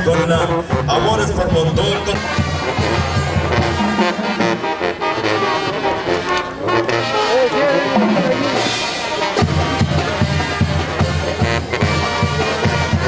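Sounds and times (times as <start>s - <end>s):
low drum and bass beat: 0.0s - 6.2s, 7.1s - 13.0s
band music with brass and drums: 0.0s - 13.0s.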